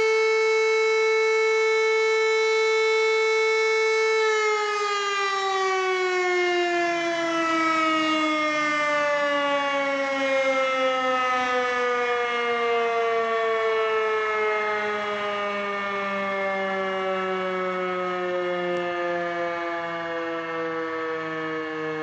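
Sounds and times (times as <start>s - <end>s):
siren winding down: 0.0s - 22.0s.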